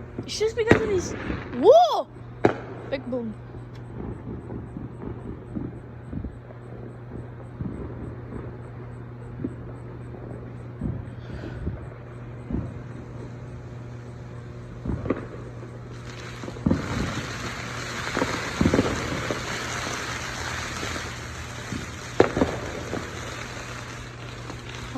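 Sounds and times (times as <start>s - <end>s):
distant fireworks booming: 0.0s - 24.9s
hissing crackling fireworks: 0.0s - 24.9s
low hum: 0.0s - 24.9s.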